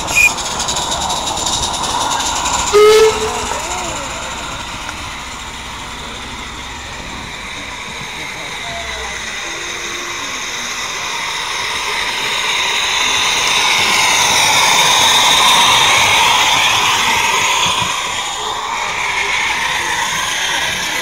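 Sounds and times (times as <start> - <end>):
miniature train running on track: 0.0 - 21.0.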